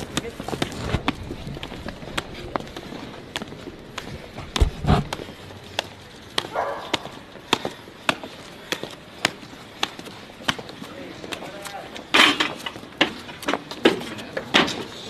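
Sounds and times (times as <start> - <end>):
footsteps climbing stairs: 0.0 - 15.0.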